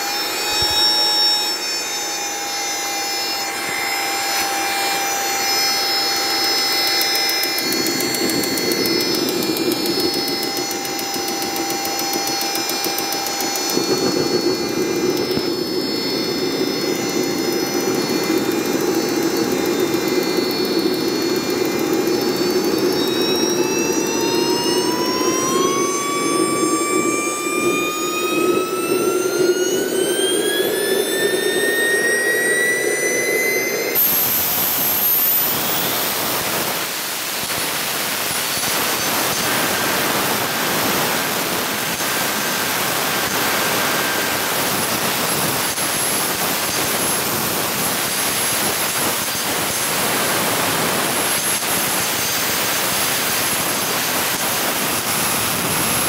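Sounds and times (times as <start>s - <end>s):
jet turbine whine and roar: 0.0s - 56.0s.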